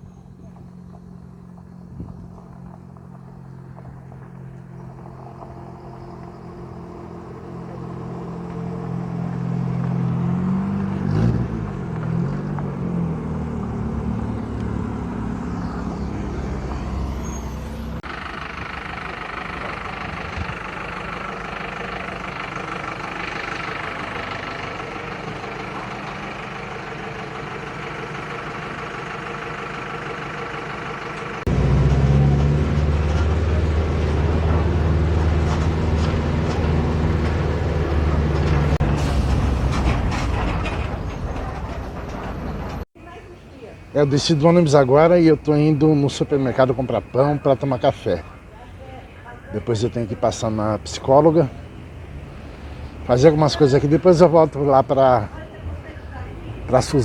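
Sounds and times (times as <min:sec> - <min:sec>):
road and engine hiss: 0:00.0 - 0:57.0
vehicle engine driving: 0:00.0 - 0:57.0.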